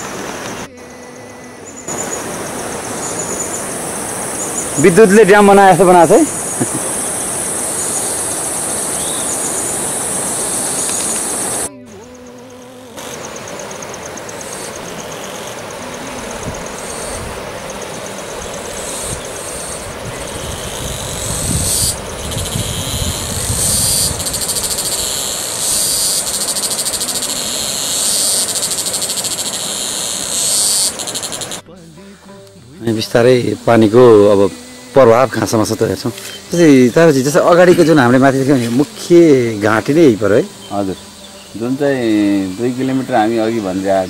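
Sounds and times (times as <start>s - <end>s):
insects buzzing: 0.0s - 44.0s.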